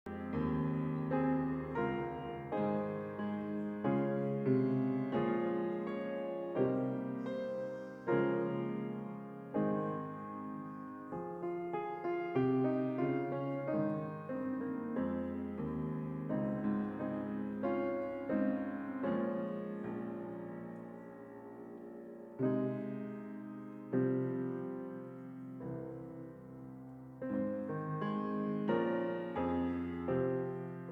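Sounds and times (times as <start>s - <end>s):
slow gentle solo piano: 0.0s - 30.9s.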